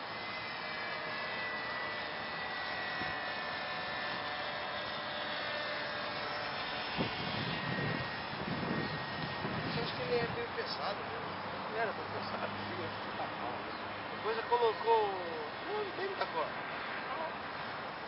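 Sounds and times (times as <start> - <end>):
model airplane motor whine: 0.0 - 18.0.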